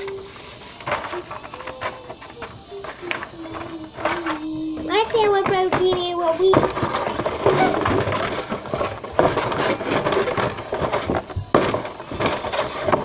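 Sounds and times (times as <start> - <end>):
small hard objects clattering: 0.0 - 13.0.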